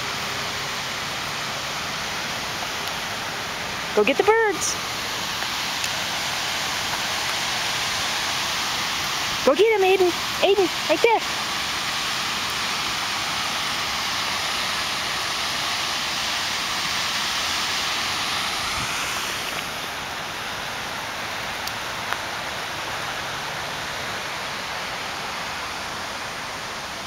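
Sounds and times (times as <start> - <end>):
fountain water spraying: 0.0 - 27.0.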